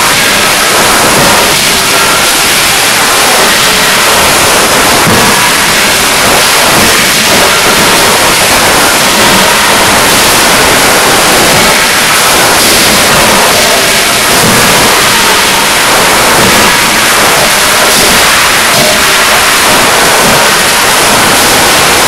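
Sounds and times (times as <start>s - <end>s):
forging machinery din: 0.0s - 22.0s.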